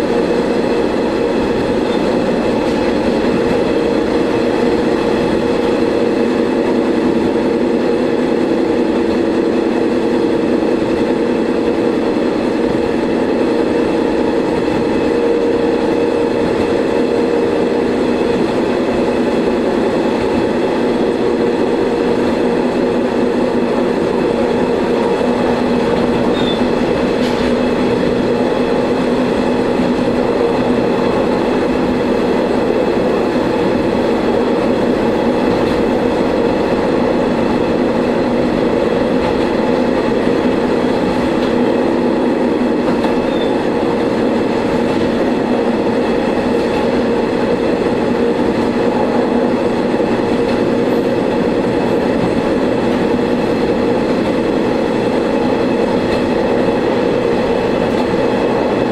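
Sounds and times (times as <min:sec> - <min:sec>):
railcar engine drone: 0:00.0 - 0:58.9
wheel and rail noise: 0:00.0 - 0:58.9.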